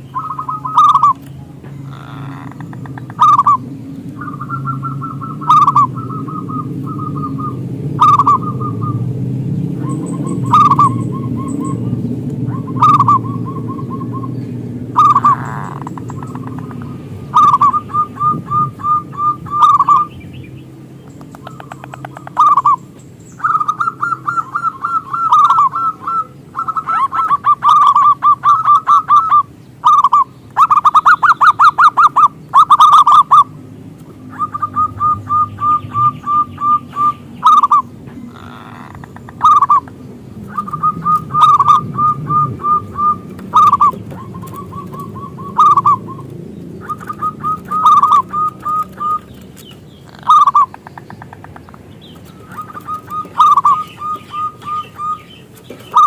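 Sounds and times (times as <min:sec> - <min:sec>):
dove singing: 0:00.0 - 0:56.0.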